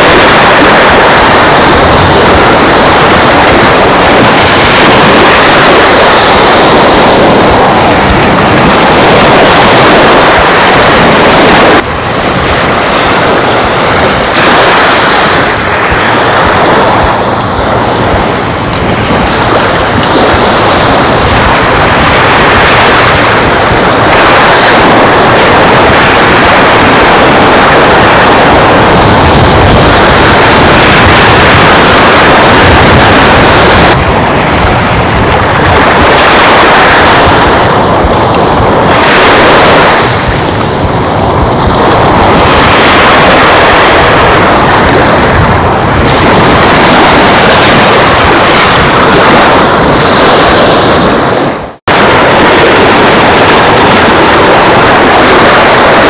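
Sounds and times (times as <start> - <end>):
surf washing onto beach: 0.0 - 56.0
wind rushing over microphone: 0.0 - 56.0.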